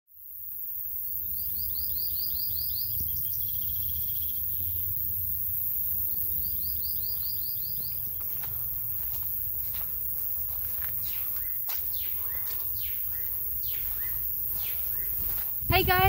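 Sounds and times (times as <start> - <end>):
high insect buzz: 0.1 - 16.0.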